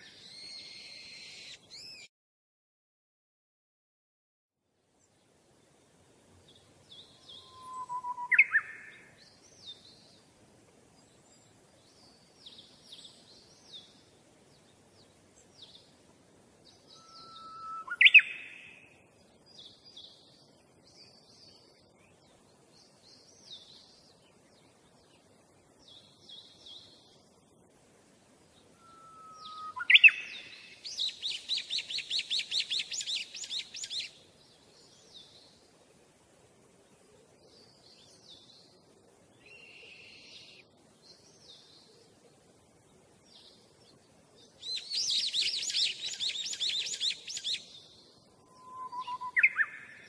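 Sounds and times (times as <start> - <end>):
small birds chirping: 6.4 - 27.7, 28.4 - 50.0.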